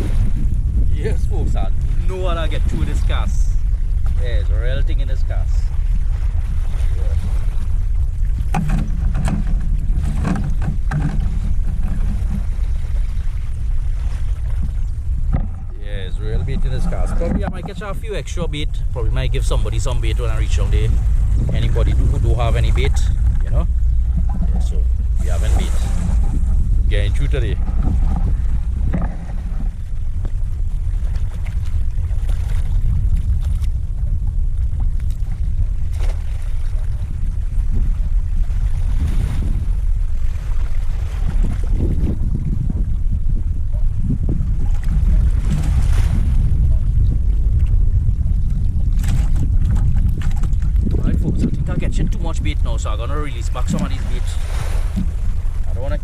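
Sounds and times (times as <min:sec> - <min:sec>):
steady low rumble: 0:00.0 - 0:56.0
wind buffeting microphone: 0:00.0 - 0:56.0.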